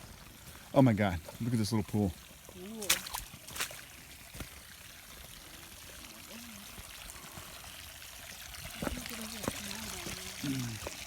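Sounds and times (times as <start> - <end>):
water trickling into pool: 0.0 - 11.0.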